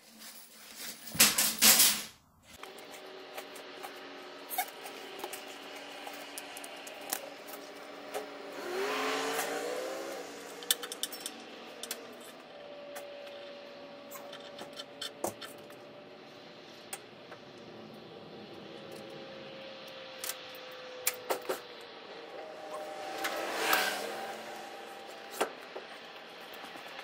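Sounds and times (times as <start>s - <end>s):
rising whine: 2.6s - 15.0s, 15.6s - 27.0s.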